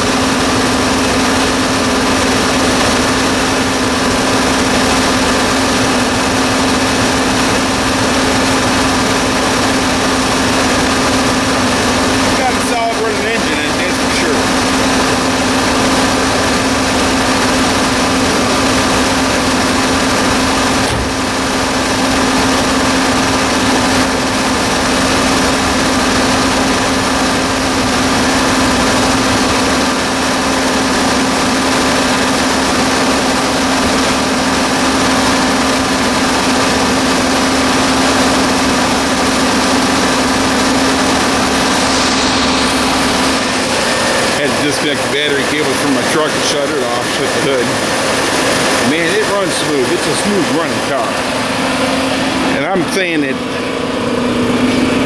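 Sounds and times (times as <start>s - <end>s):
car engine idling: 0.0s - 52.6s.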